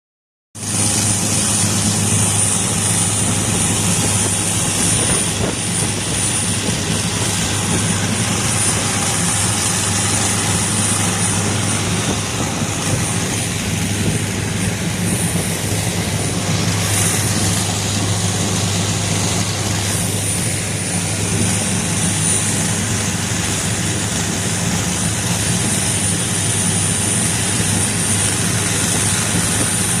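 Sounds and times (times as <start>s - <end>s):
boat engine drone: 0.6s - 30.0s
water rushing: 0.6s - 30.0s.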